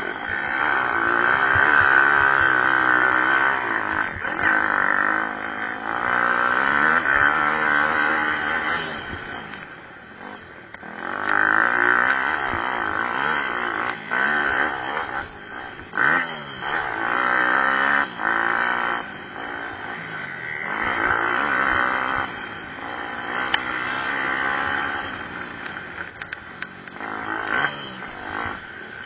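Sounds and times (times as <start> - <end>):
motorbike engines revving: 0.0 - 29.0.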